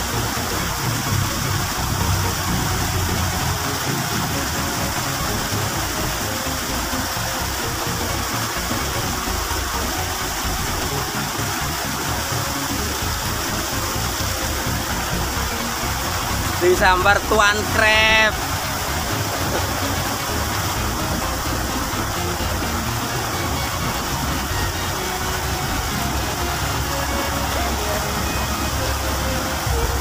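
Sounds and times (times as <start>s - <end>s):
waterfall rushing into pool: 0.0s - 30.0s.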